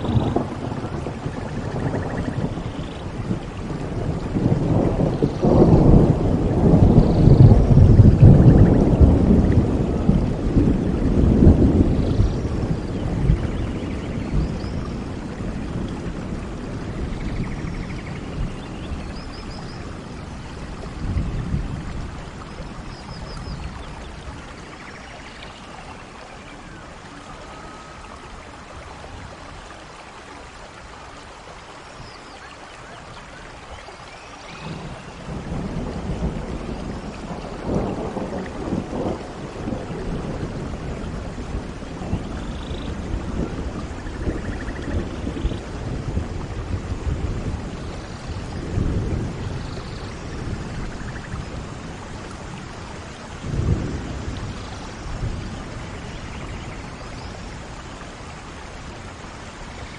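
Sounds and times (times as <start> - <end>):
rolling thunder: 0.0 - 29.9, 34.5 - 59.9
steady rain: 0.0 - 59.9.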